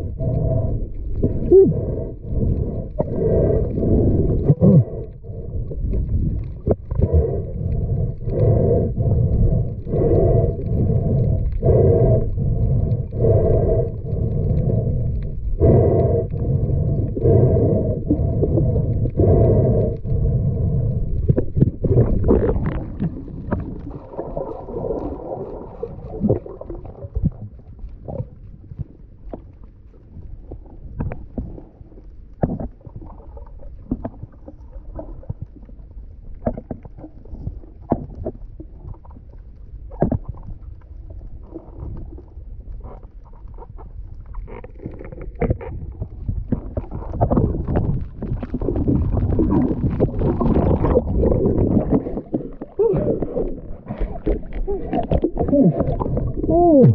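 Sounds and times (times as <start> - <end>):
sharp clicks underwater: 0.0 - 56.9
underwater swimming pulses: 0.0 - 56.9.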